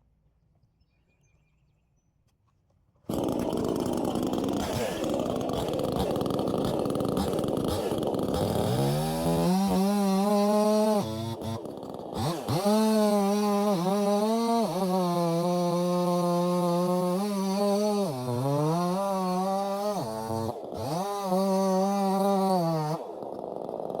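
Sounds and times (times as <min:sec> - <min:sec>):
chainsaw cutting wood: 0:03.1 - 0:24.0.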